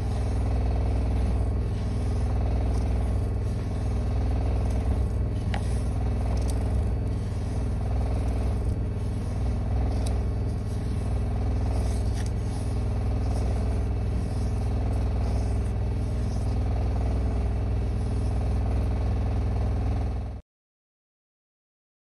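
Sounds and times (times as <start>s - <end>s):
pencil scratching on paper: 0.0s - 20.4s
washing machine spinning: 0.0s - 20.4s.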